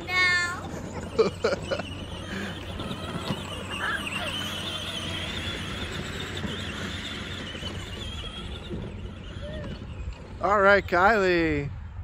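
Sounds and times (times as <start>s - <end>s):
electric toy truck motors whining: 0.0s - 11.6s.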